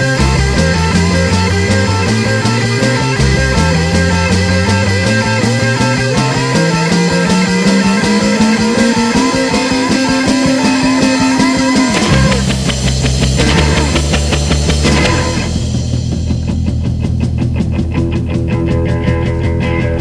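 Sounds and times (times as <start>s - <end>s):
rock band with electric guitars: 0.0s - 20.0s.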